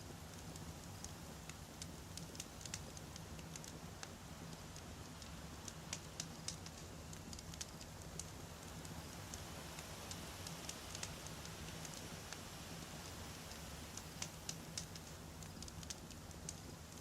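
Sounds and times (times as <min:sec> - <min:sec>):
logs crackling and popping: 0:00.1 - 0:17.0.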